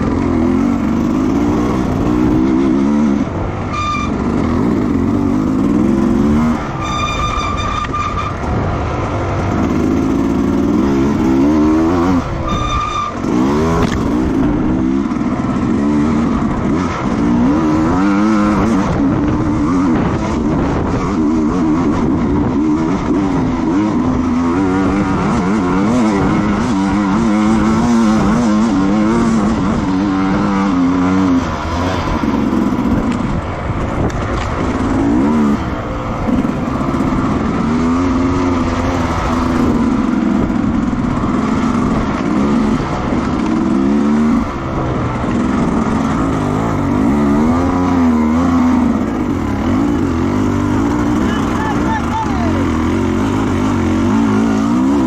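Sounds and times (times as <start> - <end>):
racing motorcycle engines: 0.0 - 55.0.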